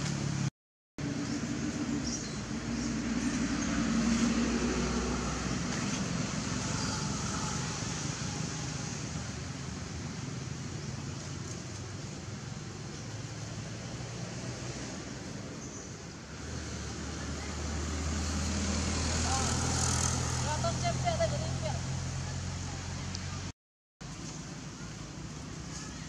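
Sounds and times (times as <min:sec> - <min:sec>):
vehicle engine hum: 0:00.0 - 0:26.0.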